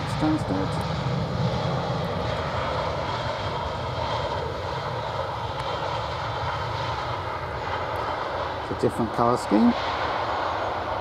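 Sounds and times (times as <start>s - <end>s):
jet engines on runway: 0.0s - 11.0s.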